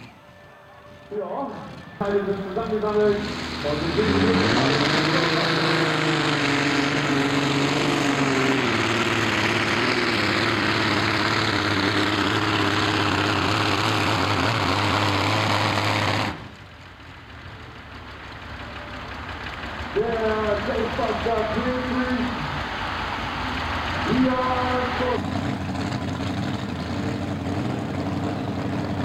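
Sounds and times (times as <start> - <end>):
tractor engine at full throttle: 1.0 - 29.0.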